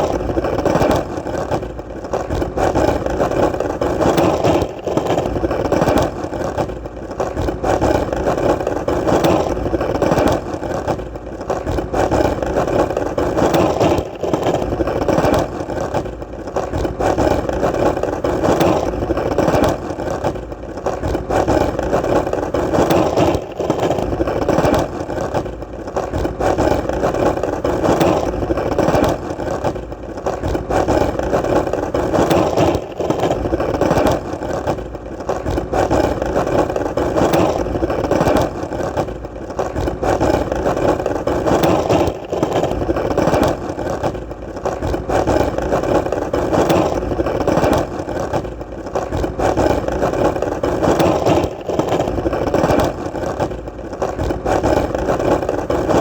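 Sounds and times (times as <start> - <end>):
skateboard wheels rolling: 0.0 - 56.0.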